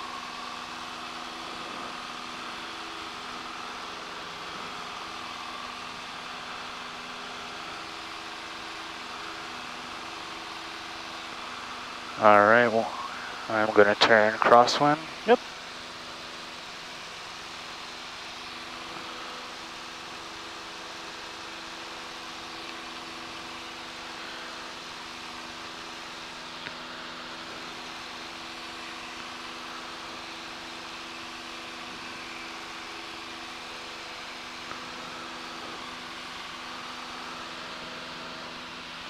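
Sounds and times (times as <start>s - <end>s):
propeller plane engine droning: 0.0s - 39.0s.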